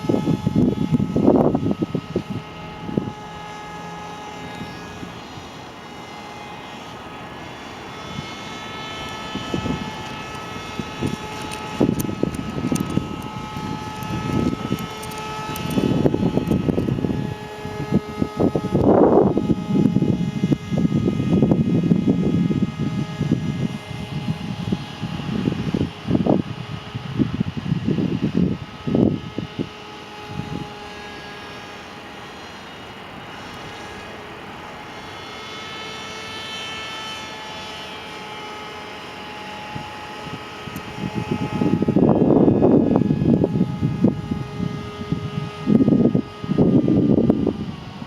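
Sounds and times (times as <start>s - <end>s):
model airplane motor whining: 0.0s - 48.0s.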